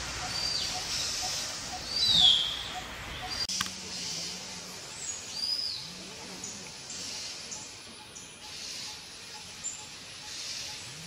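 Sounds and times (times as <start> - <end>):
forest background hiss: 0.0 - 11.0
forest birds calling: 0.0 - 11.0.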